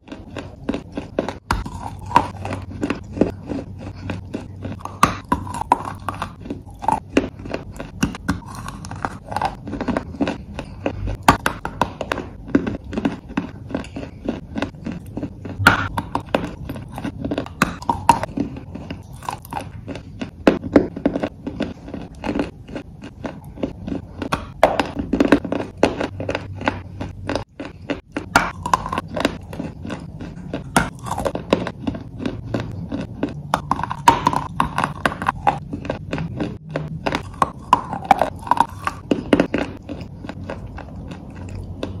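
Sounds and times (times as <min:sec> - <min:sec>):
gritty chewing crunches: 0:00.0 - 0:42.0.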